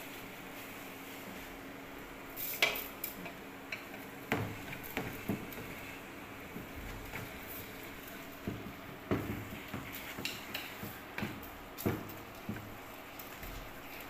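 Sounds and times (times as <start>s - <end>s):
induction cooker hum: 0.0s - 14.0s.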